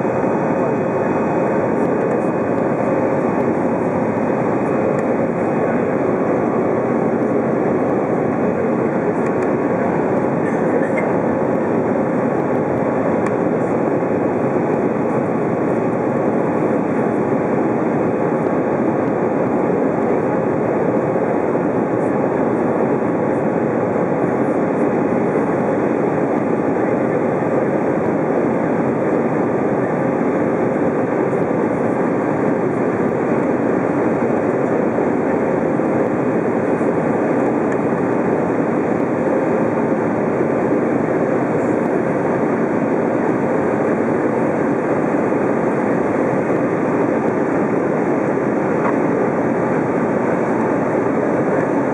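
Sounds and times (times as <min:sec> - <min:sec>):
jet engines at climb thrust: 0:00.0 - 0:51.9.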